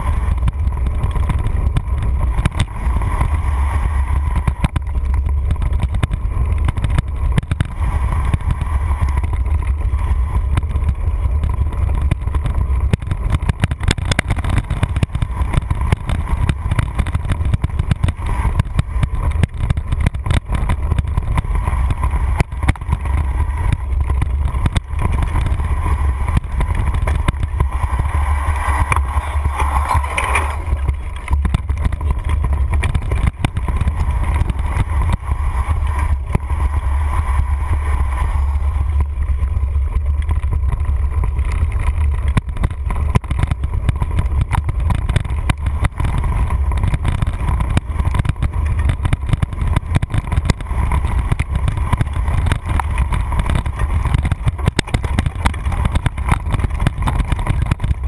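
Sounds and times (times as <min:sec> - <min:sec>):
mountain bike rumbling over dirt: 0:00.0 - 0:58.0.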